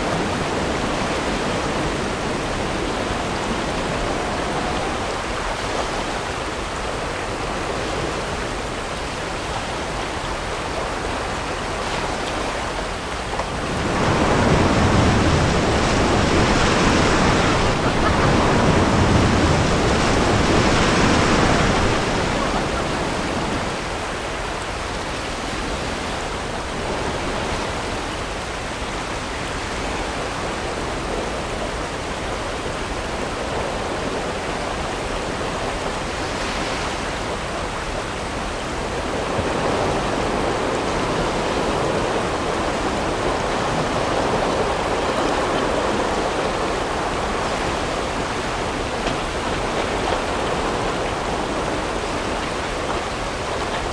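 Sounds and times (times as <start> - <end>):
whitewater rapids roaring: 0.0 - 53.9.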